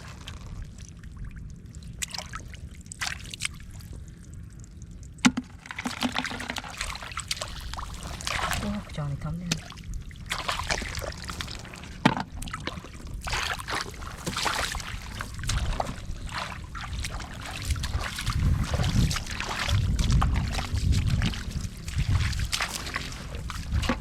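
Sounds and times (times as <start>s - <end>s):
muddy water sloshing and splashing: 0.0s - 24.0s.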